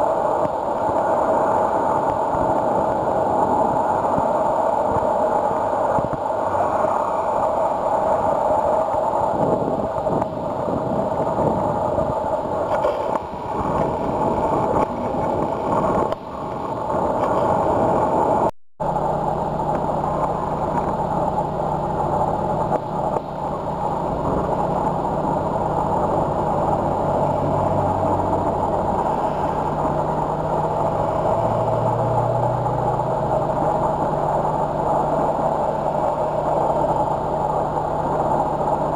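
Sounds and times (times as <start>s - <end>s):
low engine hum: 0.0s - 38.9s
road traffic passing: 0.0s - 38.9s.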